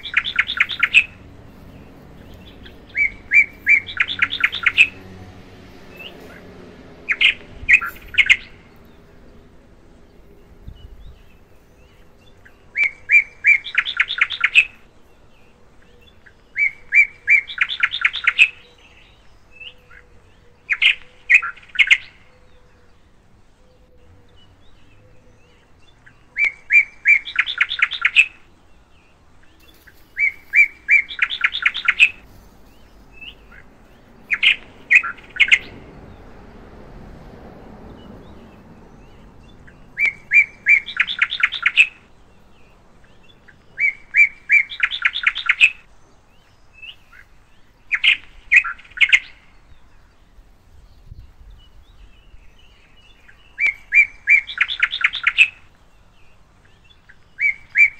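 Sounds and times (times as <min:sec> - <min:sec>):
songbird singing with trills: 0:00.0 - 0:36.8, 0:37.5 - 0:57.9.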